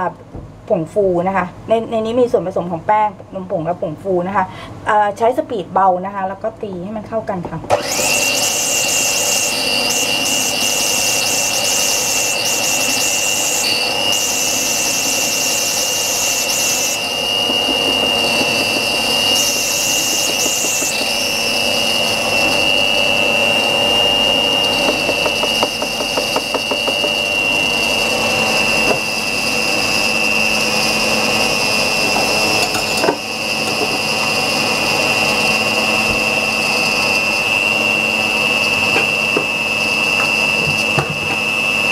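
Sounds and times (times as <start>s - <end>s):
electric mixer beating batter: 7.7s - 41.9s.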